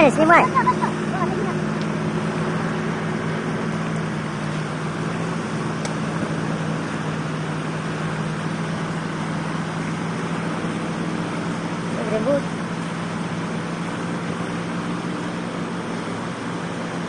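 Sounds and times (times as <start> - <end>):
floodwater rushing: 0.0 - 17.0
truck engine drone: 0.0 - 17.0.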